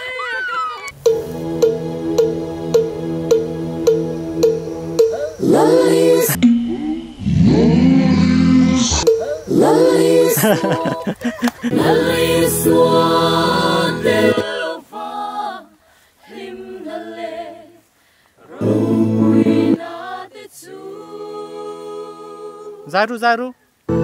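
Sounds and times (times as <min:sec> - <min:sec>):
choir singing a cappella: 0:01.0 - 0:07.7, 0:08.7 - 0:23.0.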